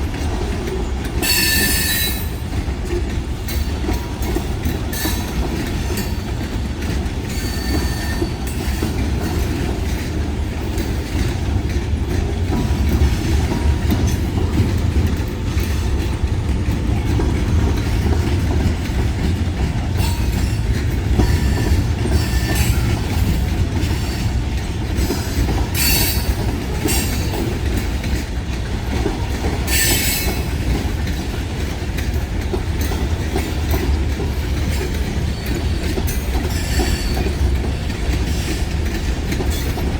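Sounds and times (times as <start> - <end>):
train clickety-clack: 0.0 - 39.9
train wheels rumbling on rails: 0.0 - 39.9.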